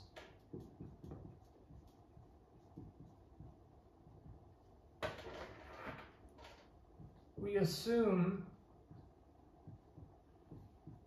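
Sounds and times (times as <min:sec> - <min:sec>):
marker scratching on whiteboard: 0:00.0 - 0:07.4, 0:08.8 - 0:11.0.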